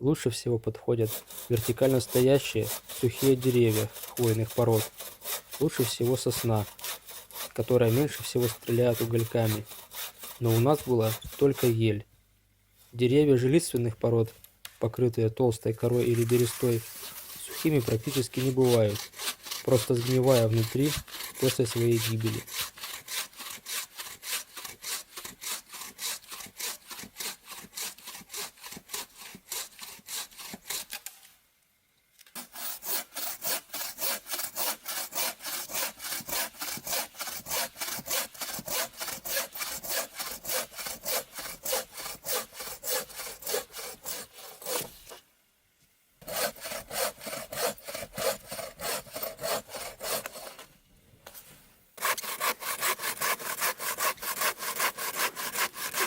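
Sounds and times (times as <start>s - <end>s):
bow saw cutting wood: 1.0s - 11.8s, 15.8s - 31.2s, 32.3s - 45.2s, 46.2s - 50.7s, 52.0s - 56.0s.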